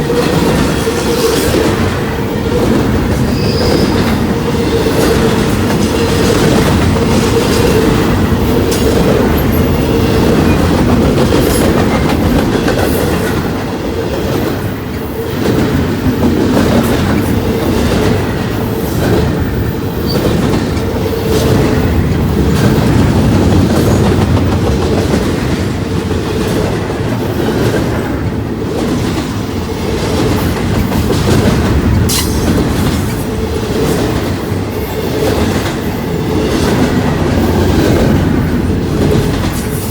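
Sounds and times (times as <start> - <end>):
railroad cars rumbling past: 0.0 - 39.9.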